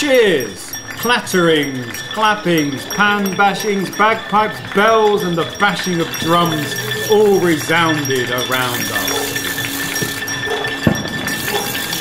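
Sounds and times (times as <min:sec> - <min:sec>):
metallic clinking: 0:00.0 - 0:12.0
steady held tone: 0:00.0 - 0:12.0.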